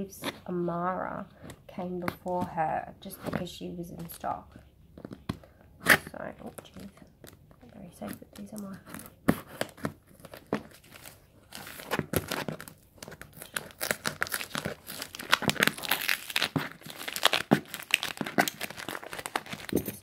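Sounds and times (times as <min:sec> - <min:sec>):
tape and plastic crinkling: 0:03.2 - 0:20.0.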